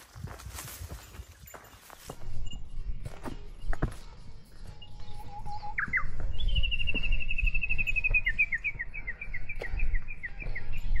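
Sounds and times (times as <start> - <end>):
footsteps crunching on trail: 0.0 - 11.0
songbird singing: 0.8 - 11.0.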